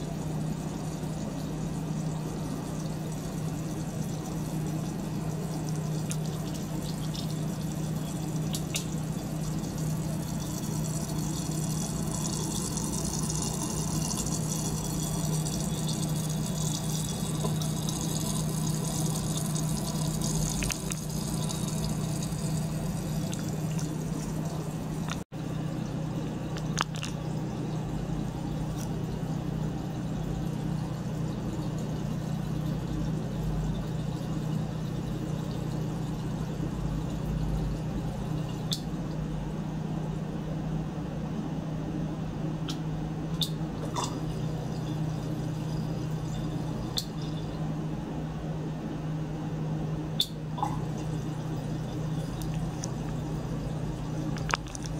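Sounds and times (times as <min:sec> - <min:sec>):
water splashing and bubbling: 0:00.0 - 0:39.1, 0:43.4 - 0:47.7, 0:50.2 - 0:54.9
small pump humming: 0:00.0 - 0:54.9.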